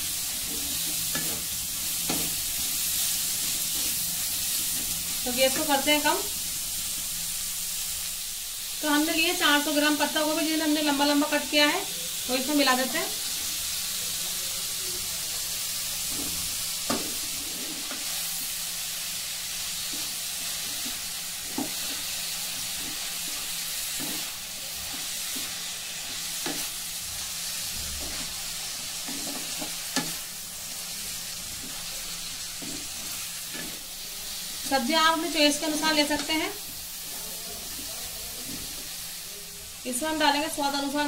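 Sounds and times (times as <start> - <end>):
vegetables sizzling in oil: 0.0 - 41.0.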